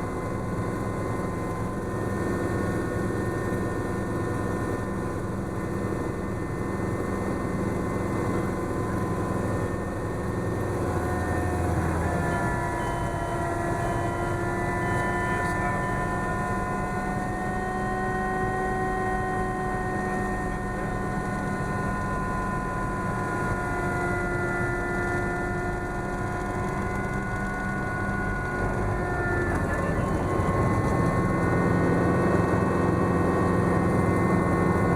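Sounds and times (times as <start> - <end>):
helicopter engine and rotors droning: 0.0 - 34.9
steady whining tones: 0.0 - 34.9.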